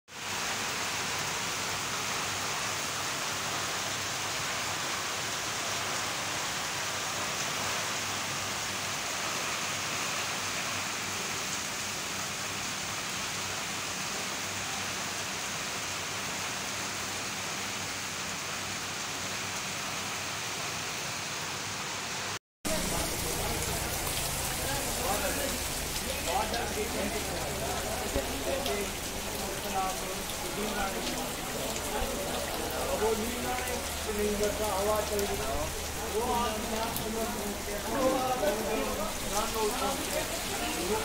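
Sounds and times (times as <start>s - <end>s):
heavy rain on a road: 0.1s - 41.0s.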